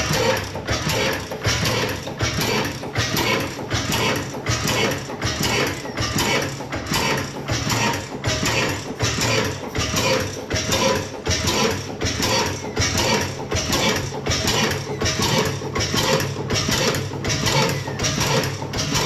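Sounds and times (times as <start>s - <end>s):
oil engine rhythmic clatter: 0.0s - 19.0s.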